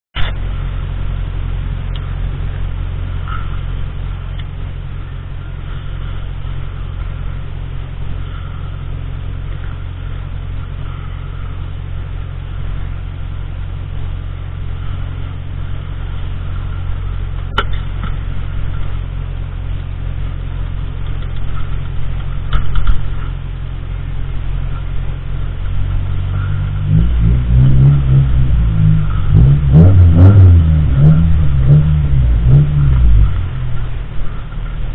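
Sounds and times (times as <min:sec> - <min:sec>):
car engine humming: 0:00.2 - 0:34.9.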